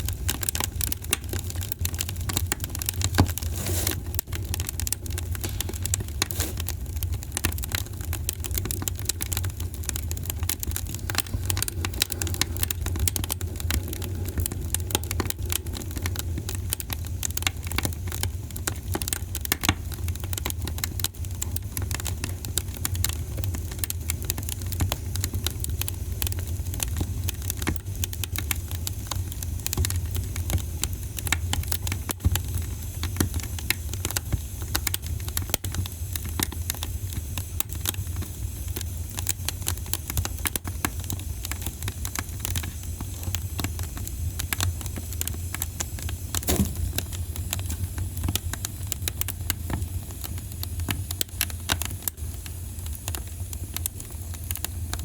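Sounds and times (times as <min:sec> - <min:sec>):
fire crackling in fireplace: 0:00.0 - 0:55.0.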